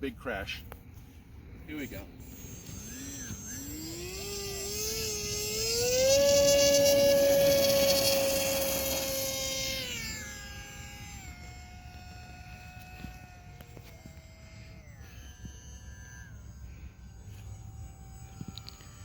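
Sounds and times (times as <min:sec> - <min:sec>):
model plane motor whine: 0:01.0 - 0:19.0.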